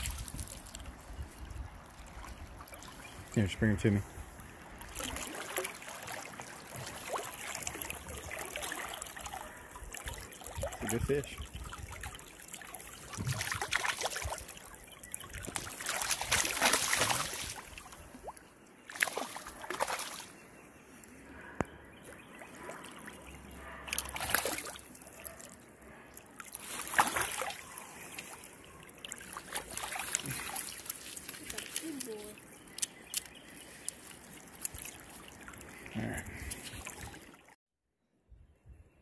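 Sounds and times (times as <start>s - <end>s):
stream trickling: 0.0s - 37.6s
stream water sloshing and splashing: 0.0s - 37.6s.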